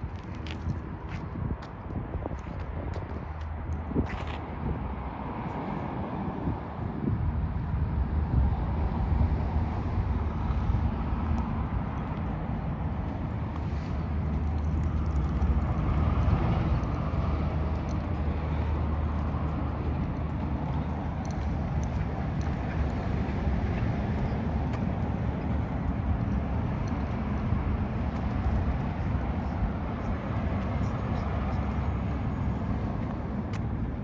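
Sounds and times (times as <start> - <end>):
motor vehicles rumbling: 0.0 - 34.0.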